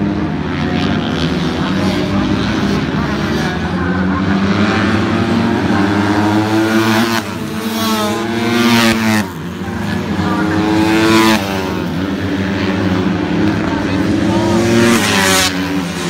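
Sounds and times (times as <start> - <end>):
racing motorcycles revving: 0.0 - 16.0.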